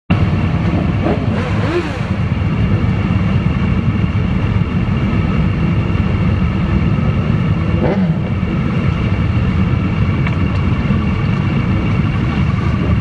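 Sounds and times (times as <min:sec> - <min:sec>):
motorcycle engine idling: 0:00.1 - 0:13.0.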